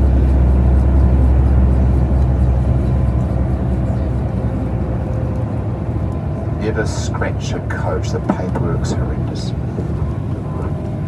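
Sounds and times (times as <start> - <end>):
coach engine droning: 0.0 - 11.0.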